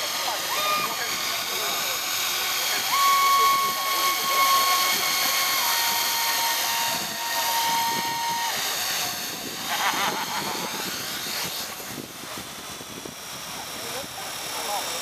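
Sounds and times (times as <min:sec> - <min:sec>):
model helicopter whine: 0:00.0 - 0:15.0.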